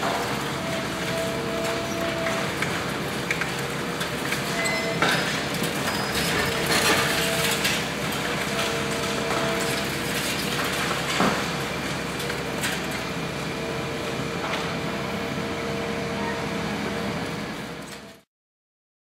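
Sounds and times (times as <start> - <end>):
hydraulic machine noise: 0.0 - 18.3.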